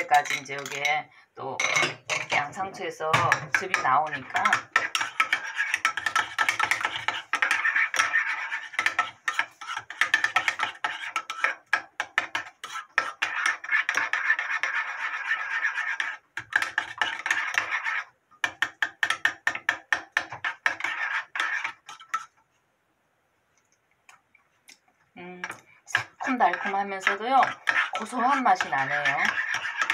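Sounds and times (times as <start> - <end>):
spoon stirring sauce in ceramic bowl: 0.0 - 1.0, 1.6 - 22.5, 23.6 - 29.9.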